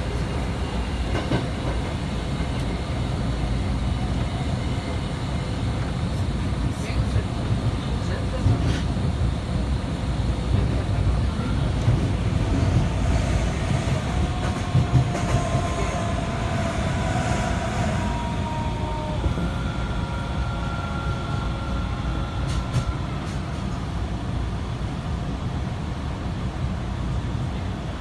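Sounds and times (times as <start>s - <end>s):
subway train running rumble: 0.0s - 28.0s.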